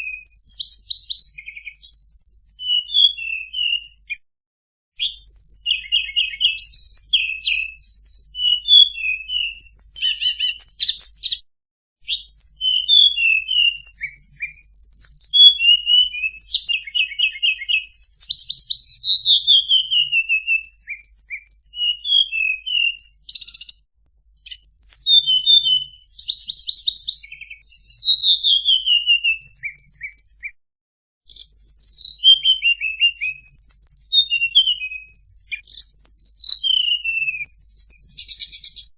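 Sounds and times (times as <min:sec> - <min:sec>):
songbird singing: 0:00.0 - 0:04.2, 0:05.0 - 0:11.4, 0:12.0 - 0:23.8, 0:24.4 - 0:30.5, 0:31.3 - 0:38.9.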